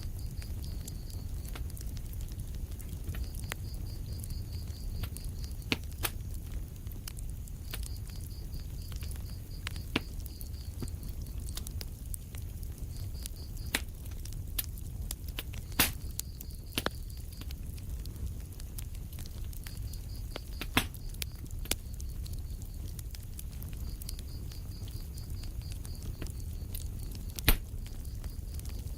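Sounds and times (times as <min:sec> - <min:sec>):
fire crackles and pops: 0:00.0 - 0:28.9
wood fire rumbling: 0:00.0 - 0:28.9.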